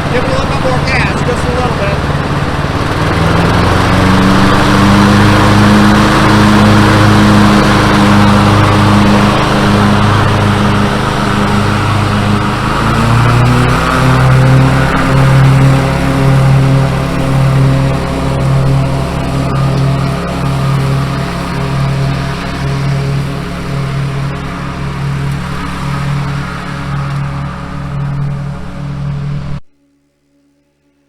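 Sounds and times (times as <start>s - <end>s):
riding lawn mower engine: 0.0s - 29.6s.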